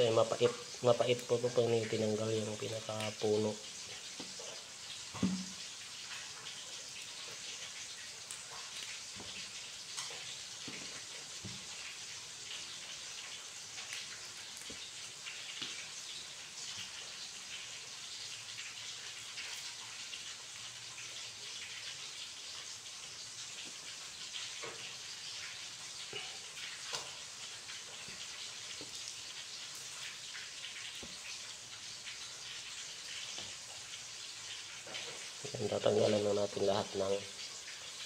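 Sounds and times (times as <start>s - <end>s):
steady crackling hiss: 0.0s - 38.0s.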